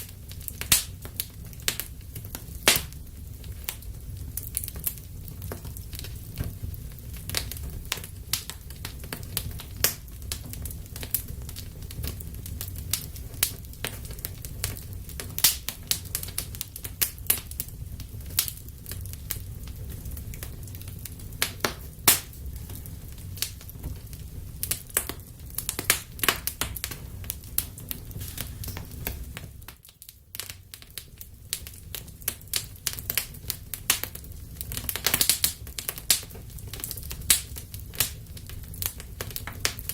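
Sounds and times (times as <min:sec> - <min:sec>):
roar of fire flames: 0:00.0 - 0:29.8, 0:30.4 - 0:39.9
crackles and pops of burning logs: 0:00.0 - 0:39.9.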